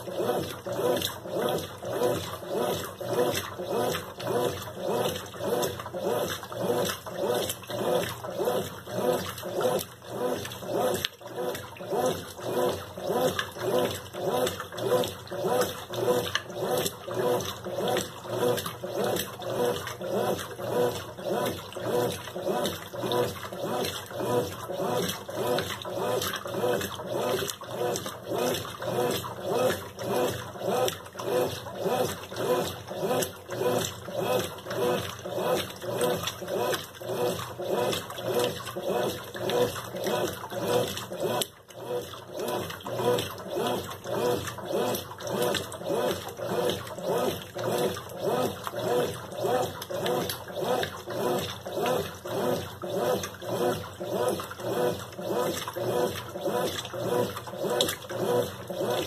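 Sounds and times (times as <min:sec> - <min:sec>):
washing machine agitating: 0:00.0 - 0:59.0
water sloshing in tub: 0:00.0 - 0:59.0.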